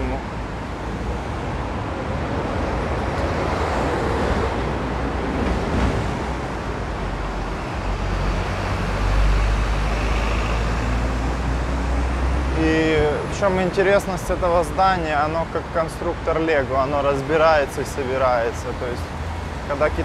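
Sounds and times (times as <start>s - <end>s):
passing road vehicles: 0.0s - 20.0s.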